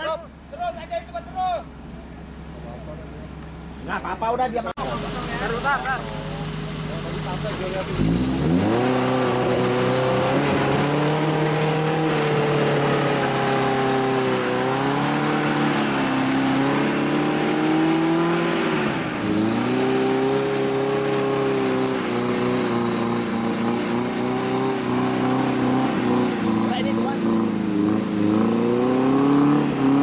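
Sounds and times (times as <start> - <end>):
off-road vehicle engine under load: 0.0 - 30.0.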